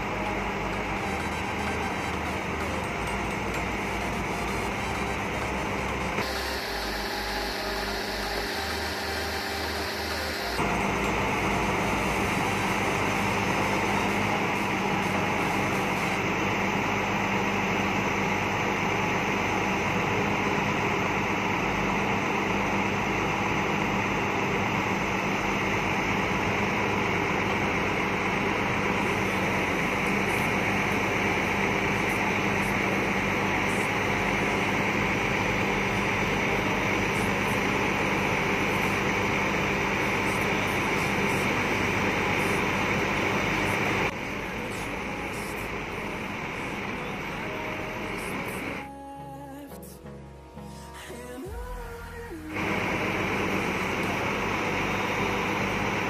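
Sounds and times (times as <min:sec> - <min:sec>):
diesel engine running: 0:00.0 - 0:49.8, 0:51.1 - 0:56.0.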